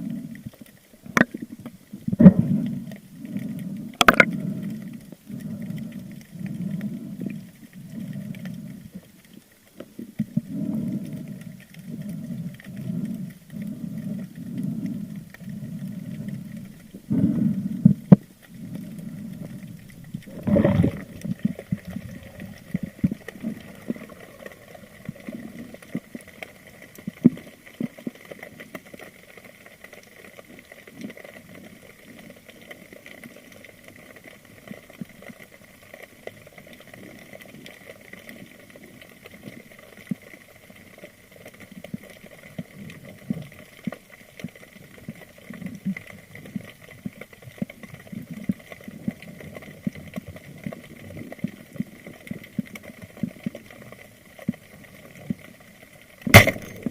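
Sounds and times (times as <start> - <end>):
underwater swimming swishes: 0.0 - 56.9.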